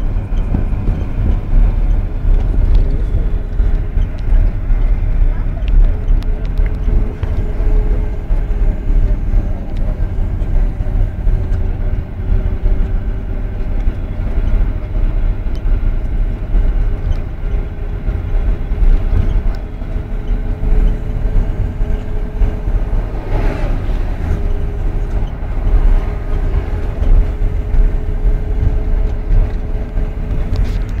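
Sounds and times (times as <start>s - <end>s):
vehicle engine and tyre rumble: 0.0s - 31.0s.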